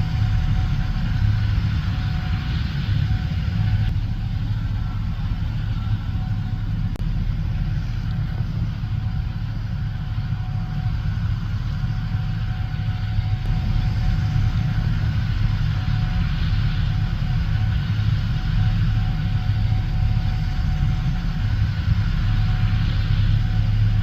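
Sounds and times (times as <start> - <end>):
diesel engine droning: 0.0 - 24.0
faint steady whine: 0.0 - 24.0.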